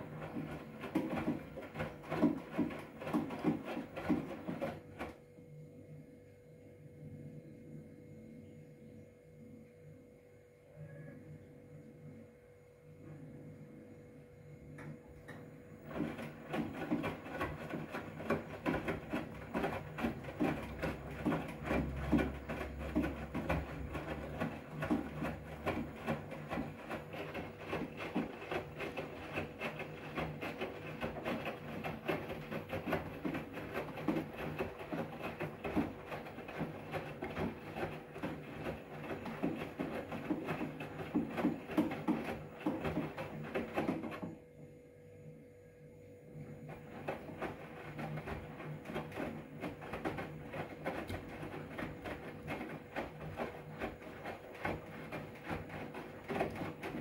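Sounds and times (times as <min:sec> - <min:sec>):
water sloshing in washing machine: 0:00.0 - 0:05.5, 0:14.7 - 0:44.5, 0:46.3 - 0:57.0
washing machine motor hum: 0:00.0 - 0:57.0.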